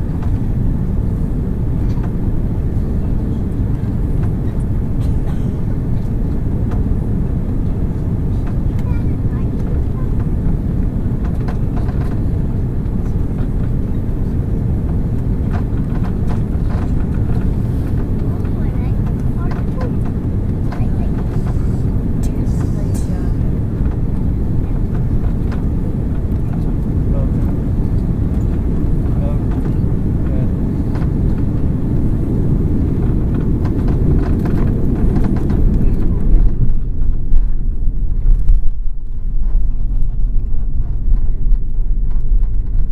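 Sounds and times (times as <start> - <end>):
engine and airflow rumble: 0.0 - 42.9.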